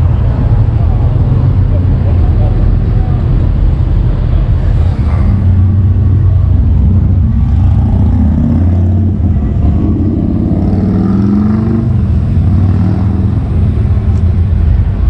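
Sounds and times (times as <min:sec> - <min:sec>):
car engine running and revving: 0:00.0 - 0:15.0.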